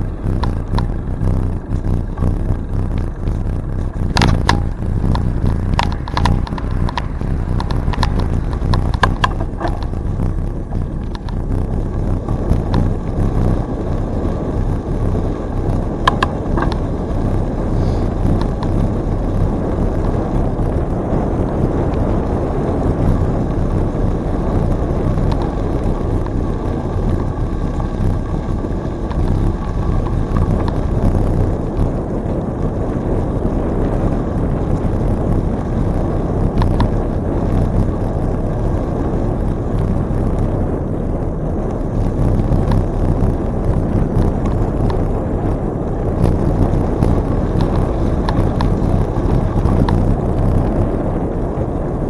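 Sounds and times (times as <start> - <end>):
bicycle tyre rumble: 0.0 - 52.0
bike clicks and rattles: 0.0 - 52.0
wind rush on microphone: 0.0 - 52.0.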